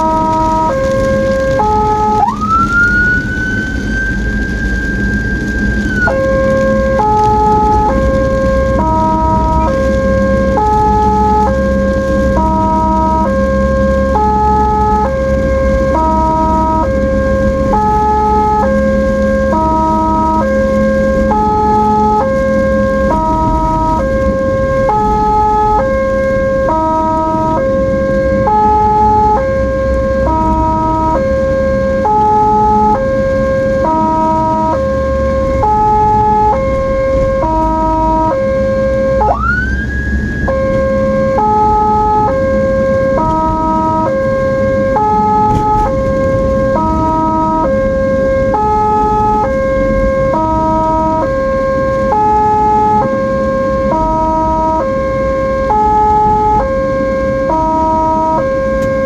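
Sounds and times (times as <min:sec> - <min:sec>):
ambulance two-tone siren: 0:00.0 - 0:59.0
rising siren tone: 0:00.0 - 0:59.0
road and engine rumble: 0:00.0 - 0:59.0.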